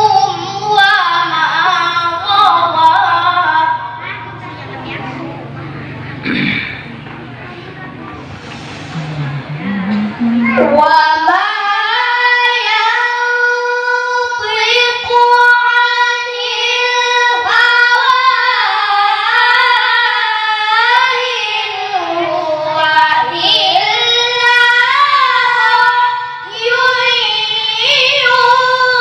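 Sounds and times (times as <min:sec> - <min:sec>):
boy reciting melodically: 0:00.0 - 0:29.0.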